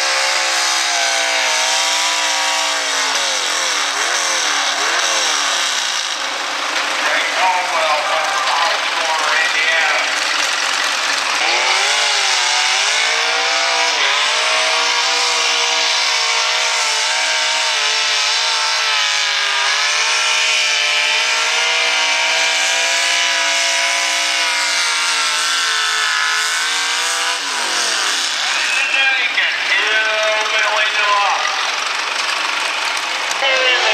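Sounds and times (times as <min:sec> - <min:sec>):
engine running at high revs: 0:00.0 - 0:33.9.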